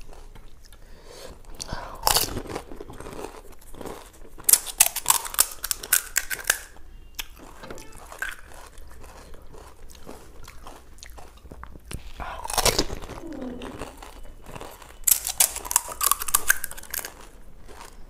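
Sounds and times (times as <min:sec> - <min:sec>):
soft chewing: 0:00.0 - 0:18.0
crunching crisp shells: 0:01.6 - 0:18.0.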